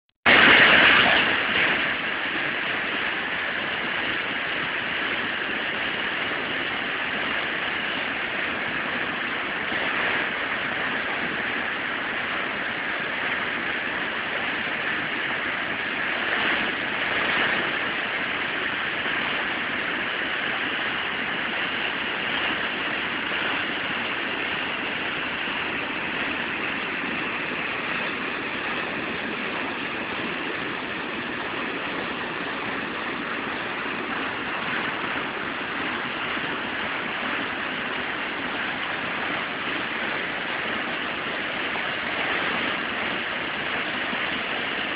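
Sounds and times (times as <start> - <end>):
creek water rushing: 0.3 - 44.9.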